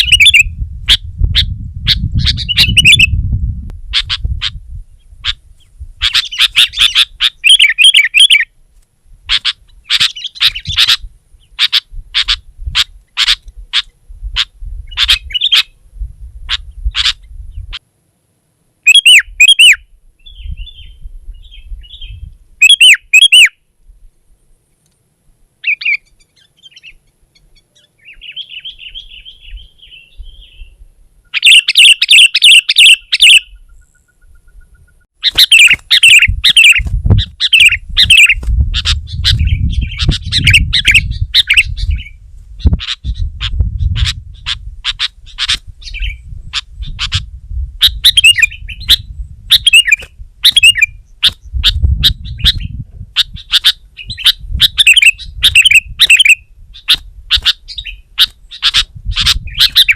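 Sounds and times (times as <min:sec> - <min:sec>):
bird chattering calls: 0:00.0 - 0:03.1, 0:03.9 - 0:04.6, 0:06.0 - 0:08.5, 0:09.3 - 0:15.8, 0:16.5 - 0:17.8, 0:18.9 - 0:20.9, 0:21.9 - 0:23.5, 0:25.6 - 0:30.6, 0:31.3 - 0:59.9.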